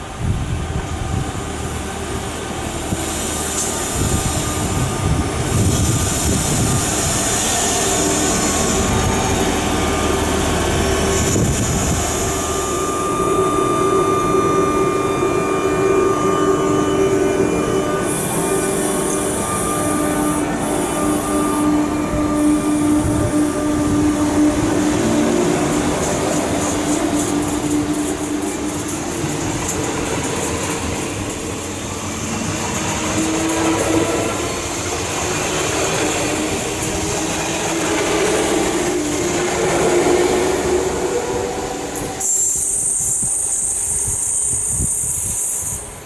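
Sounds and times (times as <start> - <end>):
high hissing of approaching train: 0.0 - 46.0
train wheels on rails: 0.0 - 46.0.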